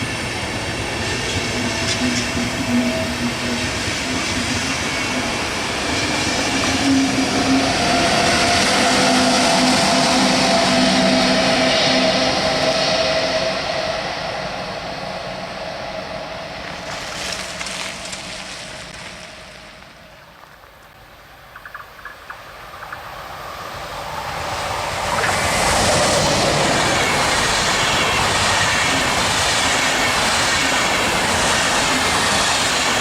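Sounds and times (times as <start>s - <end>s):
diesel train passing: 0.0s - 33.0s.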